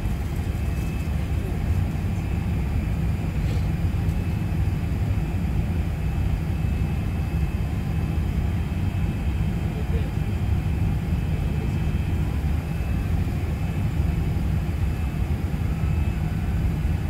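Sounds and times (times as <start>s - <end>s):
airliner engine rumble in cabin: 0.0s - 17.0s
faint thin whine: 0.0s - 17.0s.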